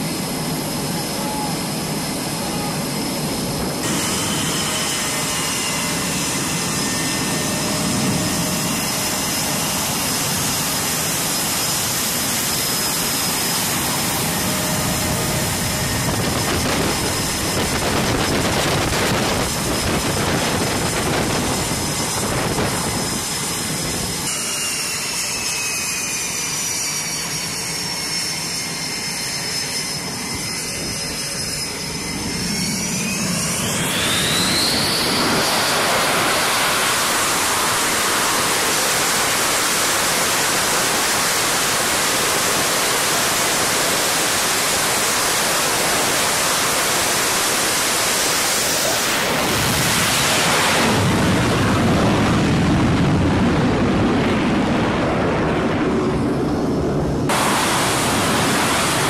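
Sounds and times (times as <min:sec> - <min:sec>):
jet engine whine and roar: 0:00.0 - 0:59.0.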